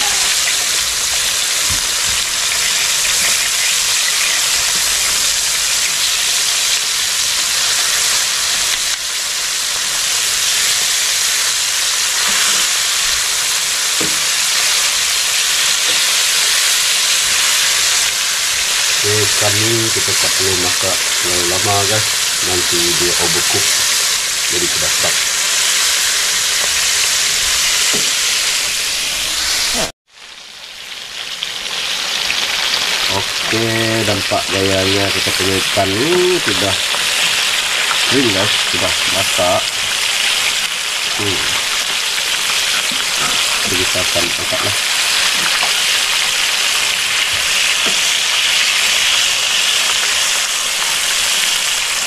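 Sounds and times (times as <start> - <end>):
fish sizzling in hot oil: 0.0 - 52.0.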